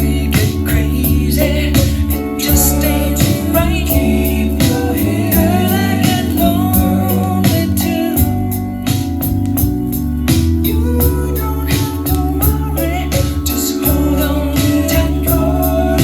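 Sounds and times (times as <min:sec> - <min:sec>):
person singing: 0:00.0 - 0:08.6, 0:10.6 - 0:16.0
music with drum beat and bass: 0:00.0 - 0:16.0.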